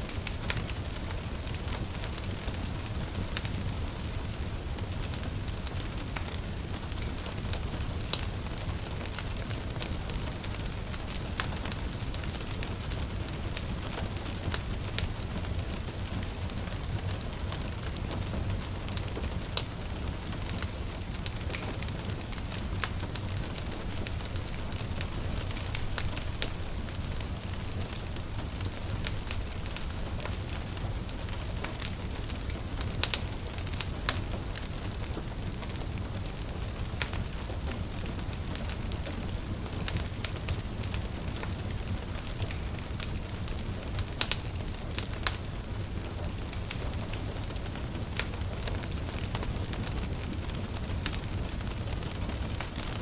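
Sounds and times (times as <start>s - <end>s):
gentle rain pattering: 0.0s - 53.0s
low rumble of flames: 0.0s - 53.0s
wood fire crackling and popping: 0.0s - 53.0s.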